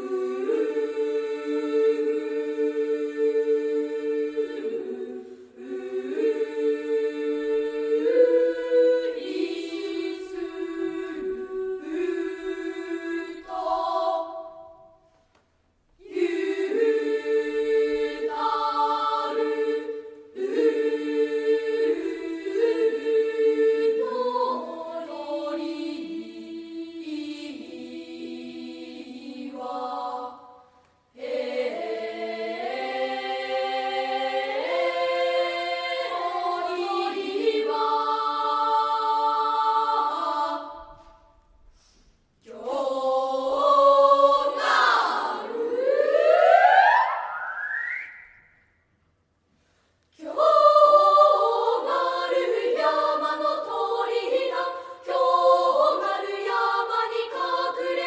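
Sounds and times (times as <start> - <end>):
children's choir singing: 0.0 - 15.1, 16.0 - 41.6, 42.4 - 48.4, 50.2 - 58.0.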